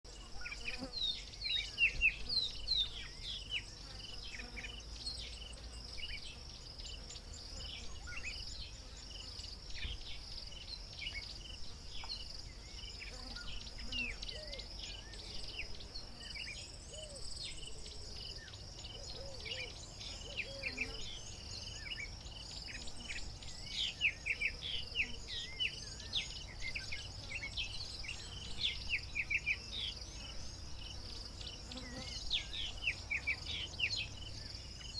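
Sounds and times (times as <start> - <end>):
high-pitched insect buzz: 0.1 - 34.9
small birds chirping: 0.1 - 34.9.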